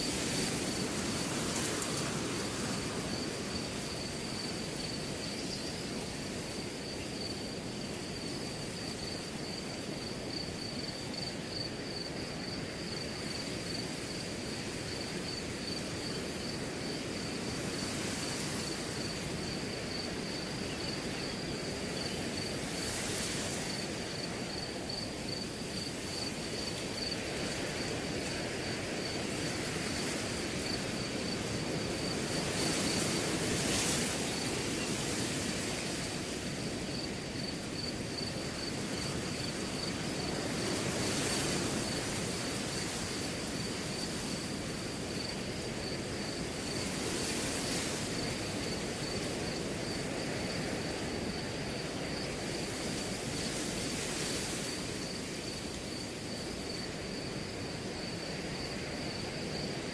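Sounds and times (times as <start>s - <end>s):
cricket chirping: 0.0s - 59.9s
wind rustling through grass: 0.0s - 59.9s.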